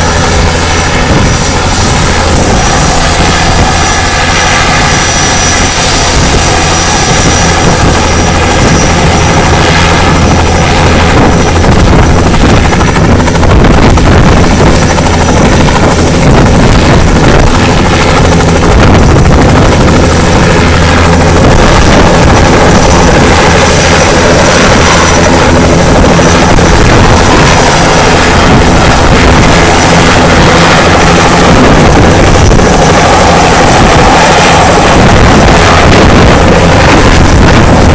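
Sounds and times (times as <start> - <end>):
helicopter rotor running: 0.0 - 37.9
high turbine whine: 0.0 - 37.9.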